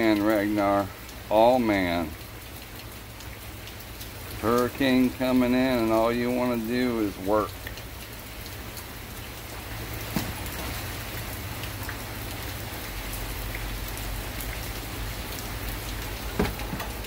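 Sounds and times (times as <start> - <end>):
rain pattering on ground: 0.0 - 17.0.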